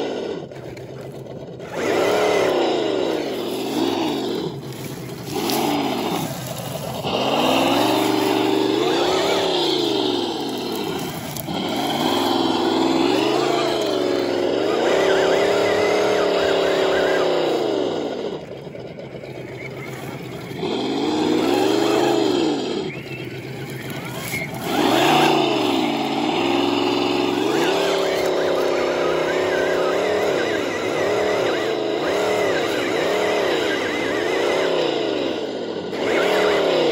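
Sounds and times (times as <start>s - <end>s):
rc car motor whine: 0.0s - 36.9s.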